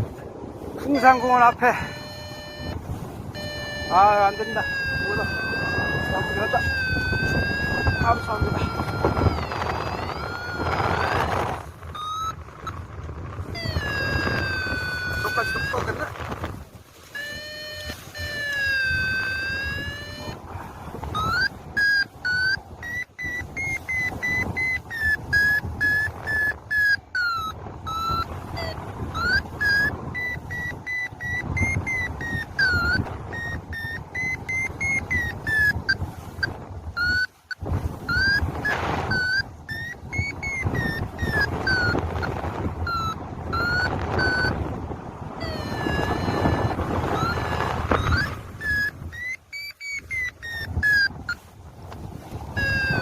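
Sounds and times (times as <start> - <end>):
wind on microphone: 0.0 - 53.0
variometer beeping: 0.8 - 53.0.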